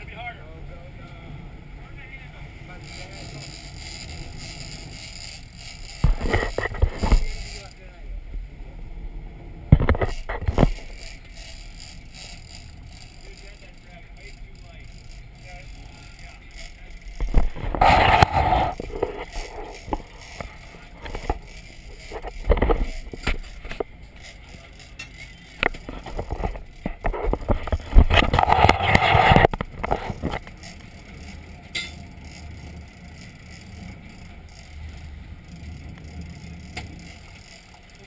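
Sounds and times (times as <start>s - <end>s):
boat engine rumble: 0.0s - 38.0s.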